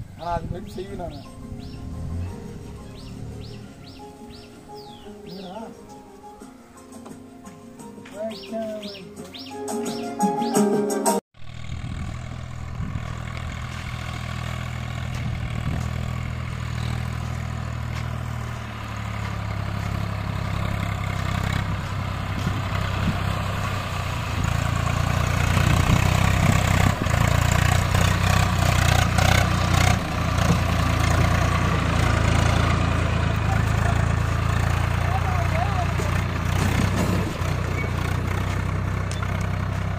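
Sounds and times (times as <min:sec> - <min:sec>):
tractor diesel engine running: 0:00.0 - 0:06.8, 0:11.4 - 0:39.9.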